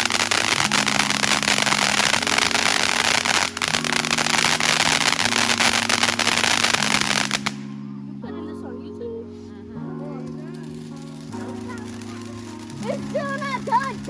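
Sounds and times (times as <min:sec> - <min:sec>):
fireworks crackling: 0:00.0 - 0:07.8, 0:10.2 - 0:14.0.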